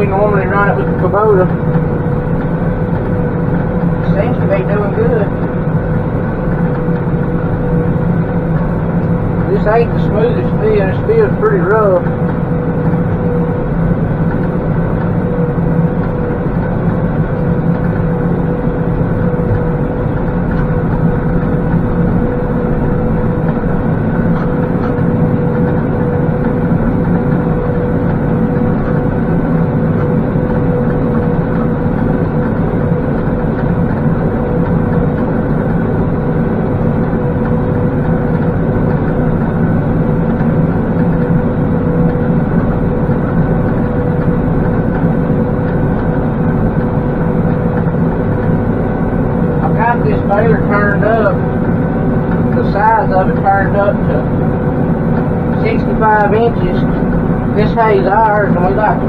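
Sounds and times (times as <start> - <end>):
steady whine: 0.0 - 59.0
tractor diesel engine running: 0.0 - 59.0.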